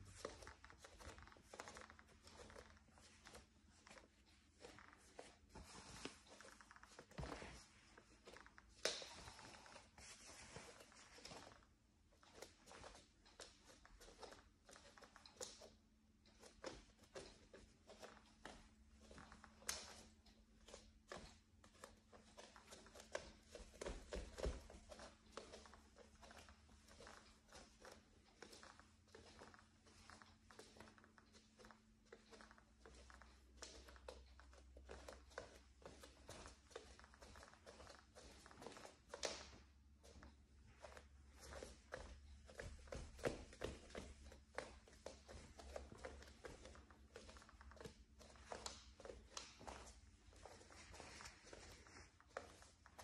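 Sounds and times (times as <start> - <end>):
wooden floor creaking under footsteps: 0.0 - 53.0.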